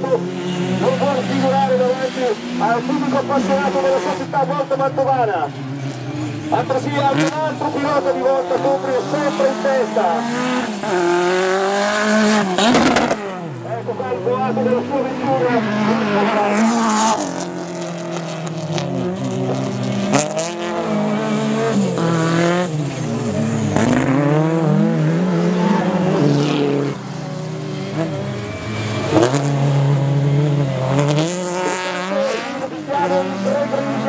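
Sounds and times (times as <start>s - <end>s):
racing car engine roaring: 0.0s - 34.0s.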